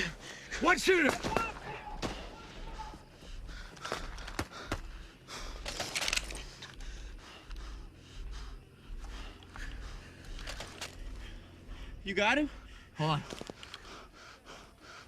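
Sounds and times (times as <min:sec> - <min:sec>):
heavy tense breathing: 0:00.0 - 0:01.0, 0:01.7 - 0:15.0
low rhythmic pulse: 0:00.0 - 0:15.0.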